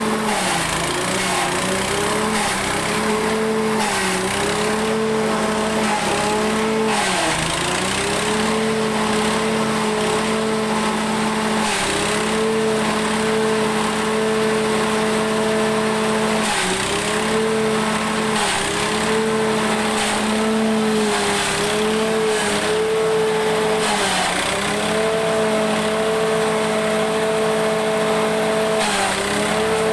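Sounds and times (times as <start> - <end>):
grass chopper machine running: 0.0 - 29.9.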